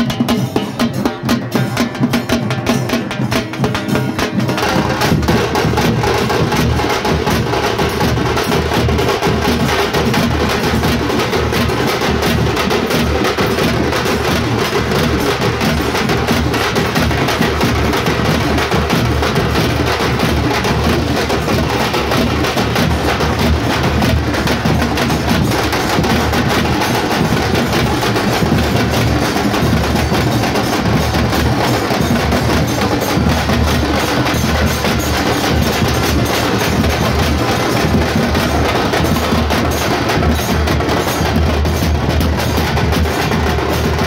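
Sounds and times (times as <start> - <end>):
frame drums beaten fast: 0.0 - 44.0.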